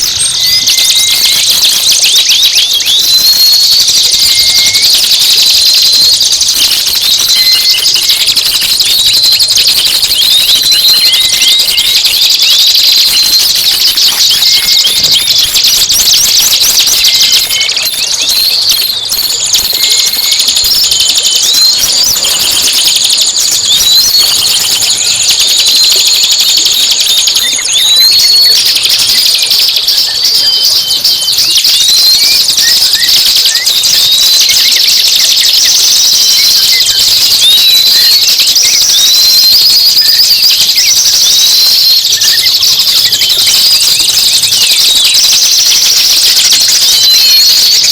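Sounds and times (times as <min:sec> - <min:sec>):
songbird chirps and trills: 0:00.0 - 0:47.9.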